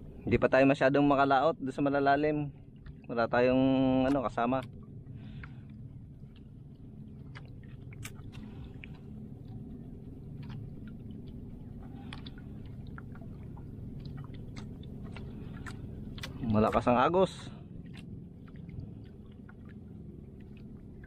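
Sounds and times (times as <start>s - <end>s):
water lapping against boat hull: 0.0s - 21.0s
small clicks and splashes: 2.7s - 21.0s.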